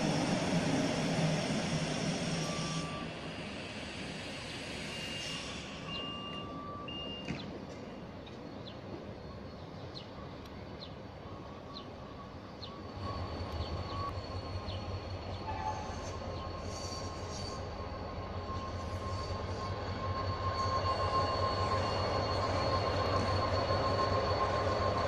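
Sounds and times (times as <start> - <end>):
locomotive high whine: 0.0 - 25.0
low rumble of locomotive: 0.0 - 25.0.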